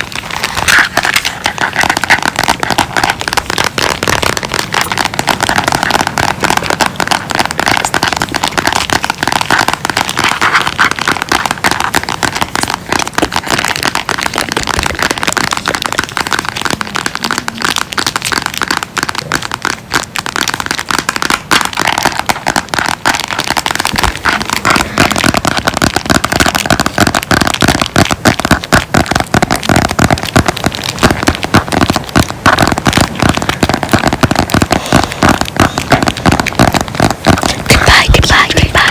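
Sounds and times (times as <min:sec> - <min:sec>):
rapid crackling clicks: 0:00.0 - 0:38.9.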